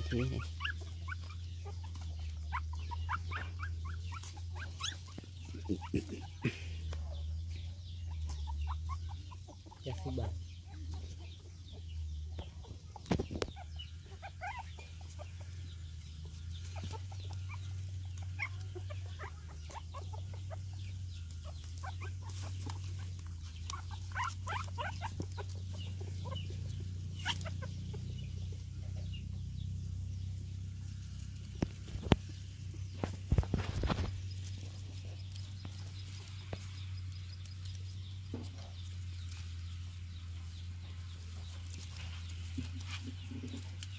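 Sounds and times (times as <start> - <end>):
puppies squeaking: 0.0 - 30.5, 31.5 - 43.9.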